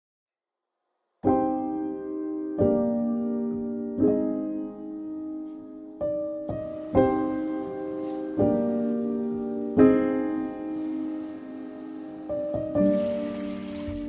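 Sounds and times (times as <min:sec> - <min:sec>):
slow piano chords: 0:01.2 - 0:14.0.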